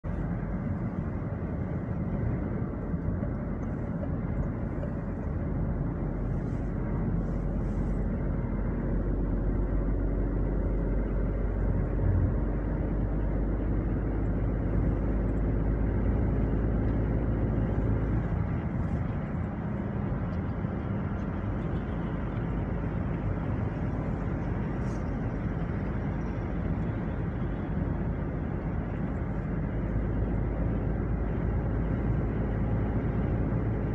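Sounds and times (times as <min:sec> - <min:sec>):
car road noise from inside: 0:00.0 - 0:33.9.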